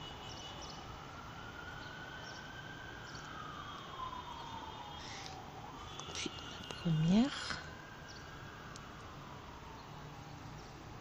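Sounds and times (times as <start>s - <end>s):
faint siren wail: 0.0s - 11.0s.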